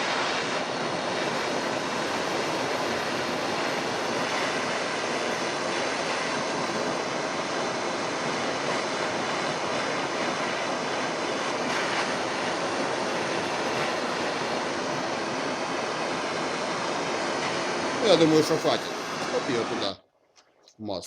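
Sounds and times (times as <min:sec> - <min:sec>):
gas torch roaring hiss: 0:00.0 - 0:20.0.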